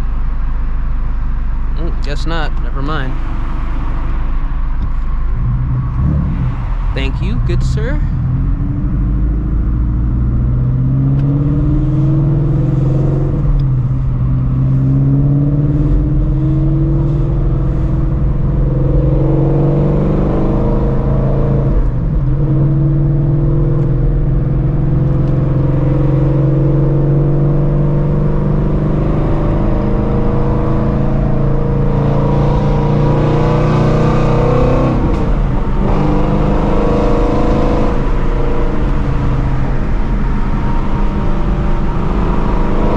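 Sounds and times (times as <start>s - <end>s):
car engine pulling steadily: 0.0s - 42.9s.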